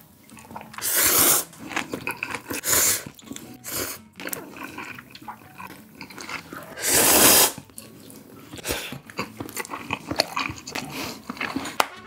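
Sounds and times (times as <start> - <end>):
chewing: 0.0 - 12.0
noodles slurped: 0.0 - 12.0.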